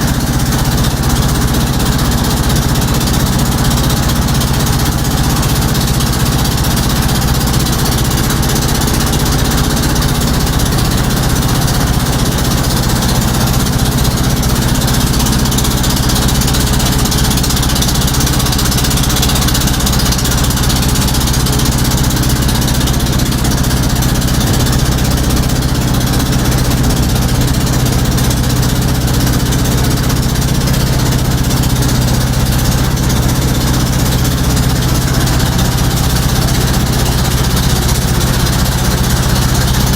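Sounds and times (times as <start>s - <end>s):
motorboat engine humming: 0.0s - 39.9s
wind: 0.0s - 39.9s.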